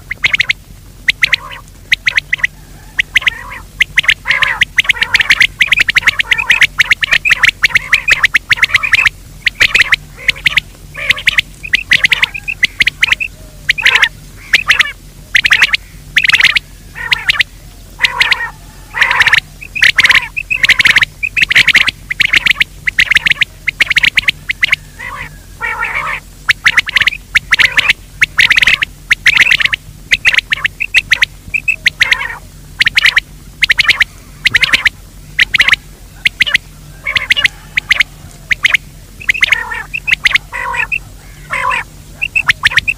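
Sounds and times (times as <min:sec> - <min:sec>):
faint low hum: 0:00.0 - 0:42.9
francolin calling: 0:00.0 - 0:42.9.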